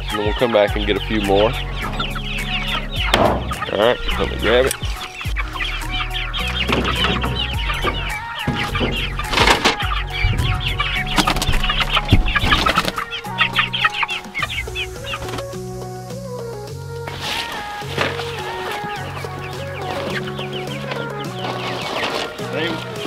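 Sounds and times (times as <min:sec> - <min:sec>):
background music: 0:00.0 - 0:23.0
hens clucking and squawking: 0:00.0 - 0:23.0.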